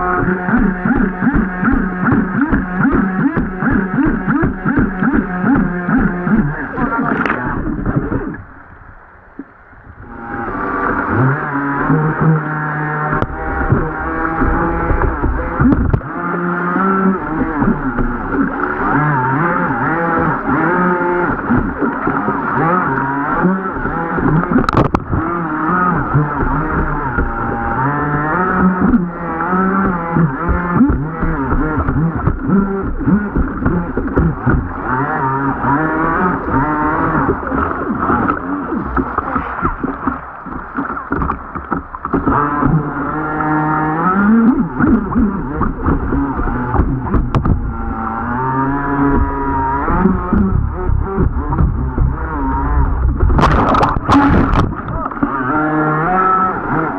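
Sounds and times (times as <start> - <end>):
model boat motor revving: 0.0 - 8.4, 10.0 - 56.9.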